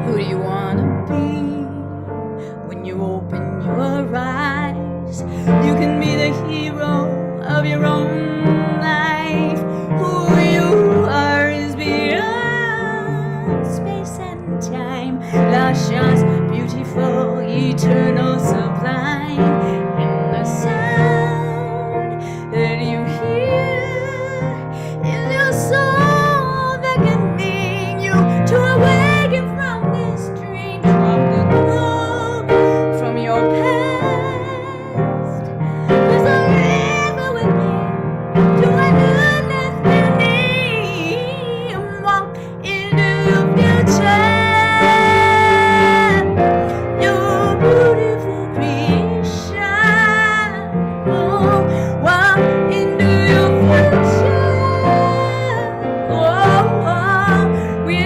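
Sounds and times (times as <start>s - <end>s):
piano accompaniment: 0.0s - 58.0s
woman singing slow song: 0.0s - 58.0s.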